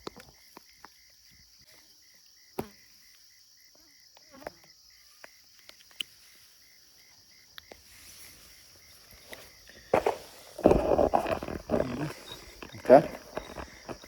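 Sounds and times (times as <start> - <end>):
cricket chirping: 0.0 - 14.0
high hum of insects: 0.0 - 14.0.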